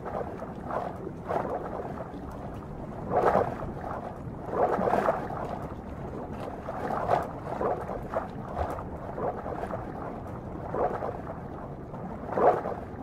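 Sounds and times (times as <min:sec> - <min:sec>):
rushing bubbling water: 0:00.0 - 0:13.0.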